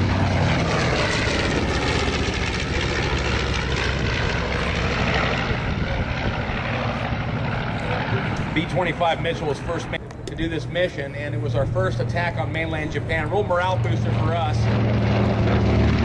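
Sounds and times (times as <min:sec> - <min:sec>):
propeller aircraft fly-by: 0:00.0 - 0:16.0.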